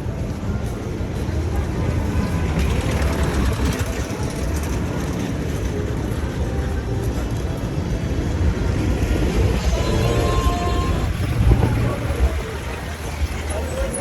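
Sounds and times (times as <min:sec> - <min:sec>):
faint voices: 0:00.0 - 0:14.0
passing vehicles rumble: 0:00.0 - 0:14.0.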